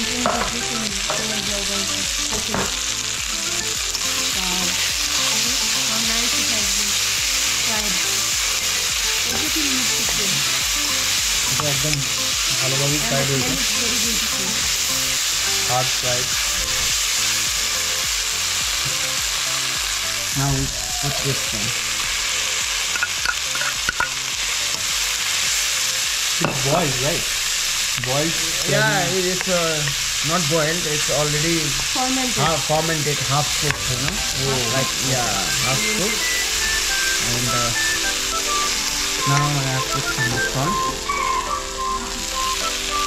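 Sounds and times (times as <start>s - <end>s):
vegetables sizzling in a wok: 0.0s - 43.0s.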